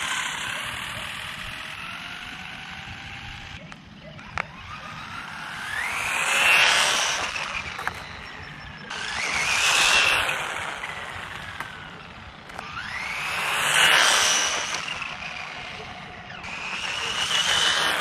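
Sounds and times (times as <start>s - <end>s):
electric toy truck whine passing: 0.0s - 18.0s.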